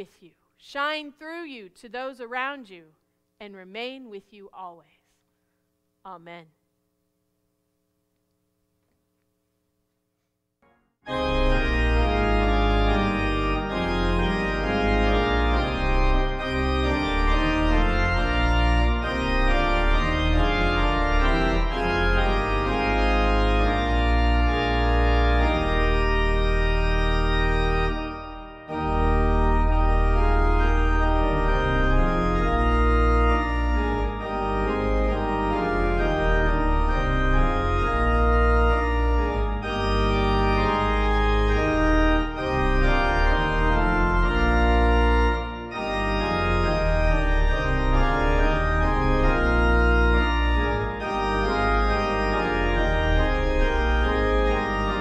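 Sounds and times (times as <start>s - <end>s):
organ playing a hymn: 10.6s - 55.0s.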